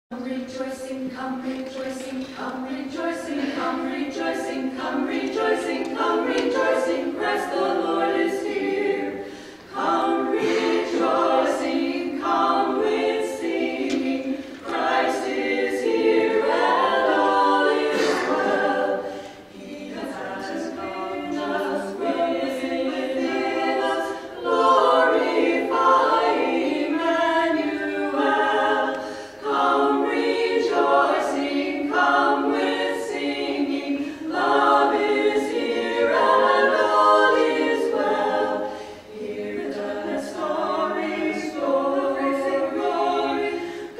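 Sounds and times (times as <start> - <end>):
women singing a cappella: 0.1 - 43.9.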